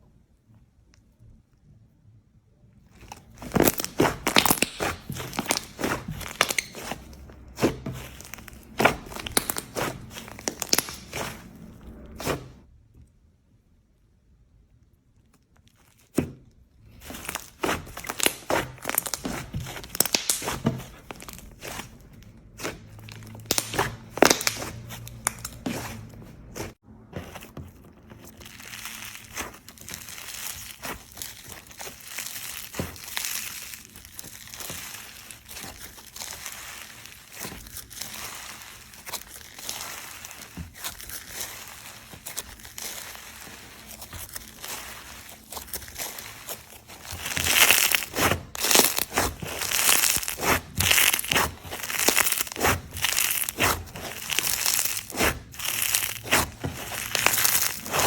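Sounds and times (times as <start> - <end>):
slime crackling and popping: 2.9 - 12.6, 15.1 - 58.0.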